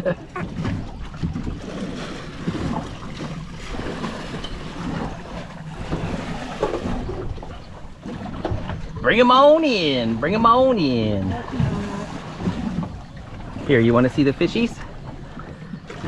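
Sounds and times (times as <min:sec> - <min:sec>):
water sloshing against boat hull: 0:00.0 - 0:16.0.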